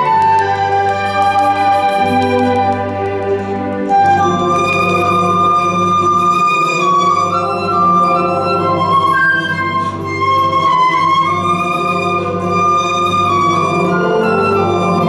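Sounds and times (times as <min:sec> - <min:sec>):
flute playing slow melody: 0:00.0 - 0:15.0
sustained low accompaniment: 0:00.0 - 0:15.0.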